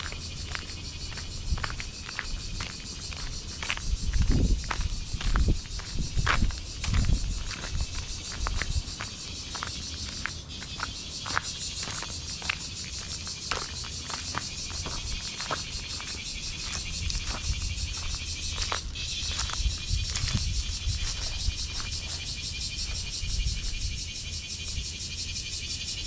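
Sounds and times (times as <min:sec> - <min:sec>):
footsteps on gravel: 0:00.0 - 0:22.4
insects buzzing: 0:00.0 - 0:26.0
short insect chirps: 0:00.0 - 0:26.0.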